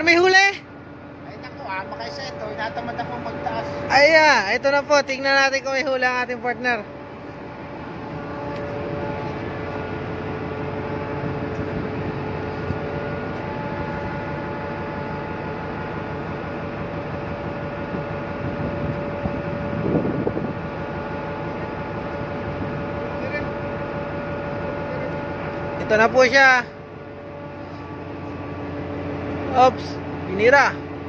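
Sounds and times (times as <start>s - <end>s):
ship machinery drone: 0.0s - 31.0s.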